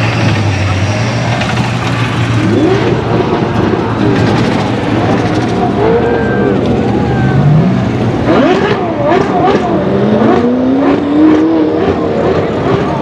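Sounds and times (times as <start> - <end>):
car engine revving in tunnel: 0.0 - 13.0
spectators' voices: 0.0 - 13.0.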